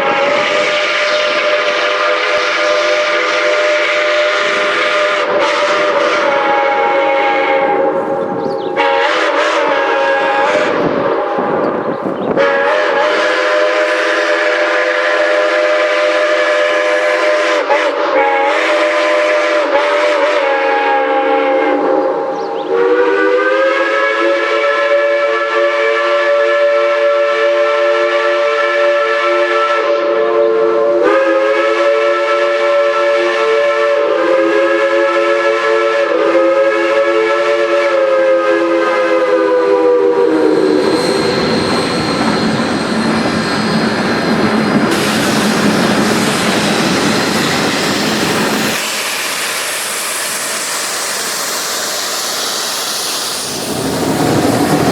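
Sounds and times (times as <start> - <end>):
steam locomotive whistle blasts: 0.0 - 54.9.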